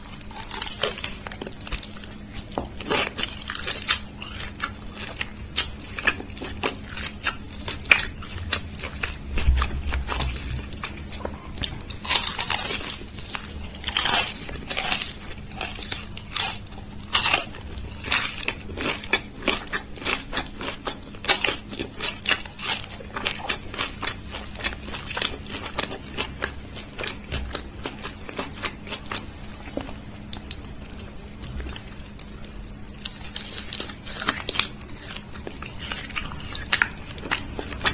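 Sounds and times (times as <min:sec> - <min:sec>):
faint steady hum: 0:00.0 - 0:37.9
person chewing crunchy food: 0:00.0 - 0:37.9.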